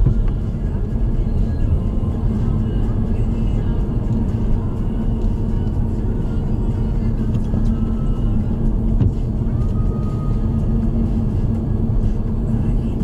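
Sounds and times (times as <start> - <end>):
car road and engine rumble: 0.0 - 13.0
steady hum: 0.0 - 13.0.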